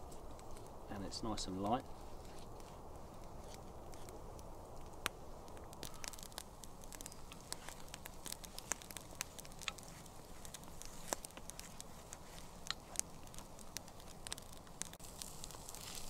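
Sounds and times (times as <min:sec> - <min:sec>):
campfire crackling and popping: 0:00.0 - 0:16.0
eggs frying in a pan: 0:00.3 - 0:16.0.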